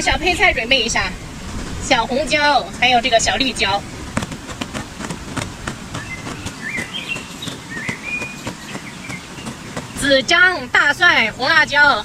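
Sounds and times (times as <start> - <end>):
faint bird chirping: 2.3 - 12.0.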